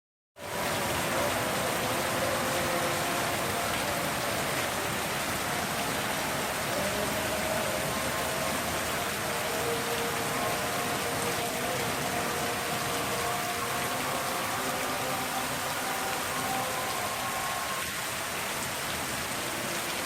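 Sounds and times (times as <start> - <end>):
heavy rain falling: 0.4 - 20.0.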